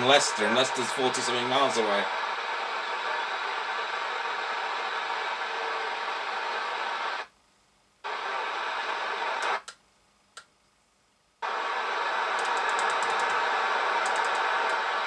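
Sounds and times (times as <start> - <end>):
radio static hiss: 0.0 - 9.8, 11.4 - 15.0.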